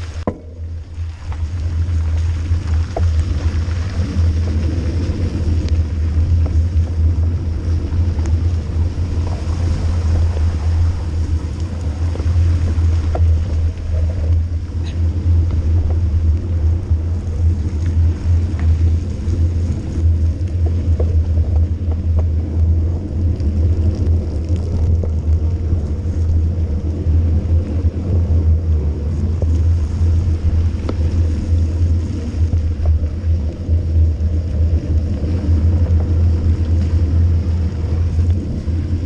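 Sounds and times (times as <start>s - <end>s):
faint clicks from trail: 0.0s - 28.1s, 28.7s - 39.0s
bike tyre noise: 0.0s - 39.0s
wind buffeting microphone: 0.0s - 39.0s.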